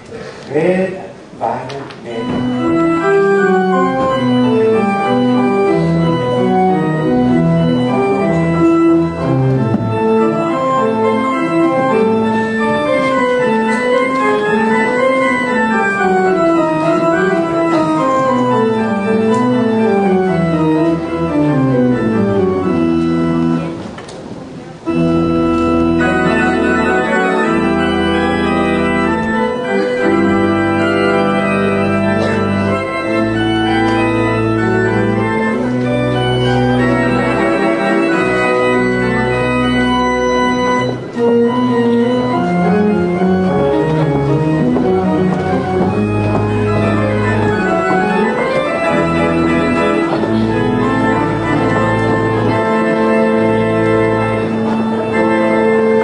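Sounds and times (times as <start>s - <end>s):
church organ playing: 2.0s - 56.0s.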